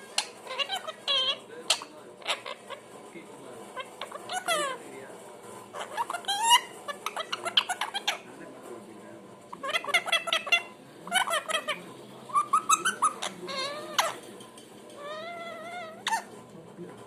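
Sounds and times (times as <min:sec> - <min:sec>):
parrot calls and chatter: 0:00.0 - 0:17.0.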